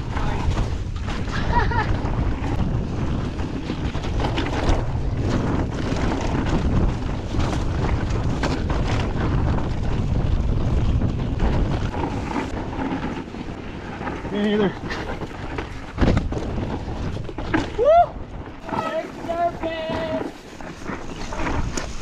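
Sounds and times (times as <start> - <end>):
bike knocks and rattles: 0.0 - 22.0
wind buffeting microphone: 0.0 - 22.0.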